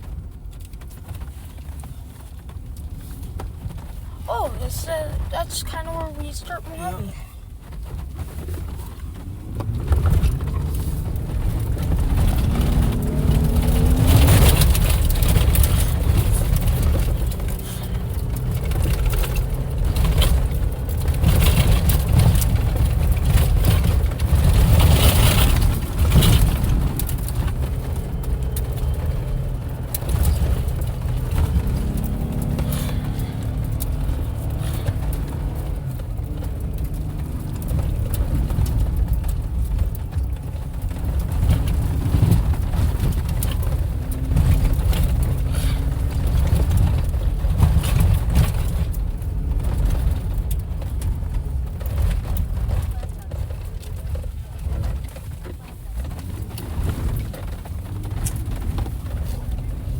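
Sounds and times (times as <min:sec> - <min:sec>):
off-road vehicle engine rumbling: 0:00.0 - 0:59.9.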